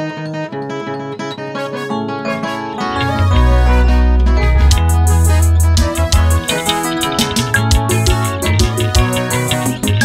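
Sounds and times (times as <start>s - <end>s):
instrumental music with heavy bass: 1.3s - 10.0s.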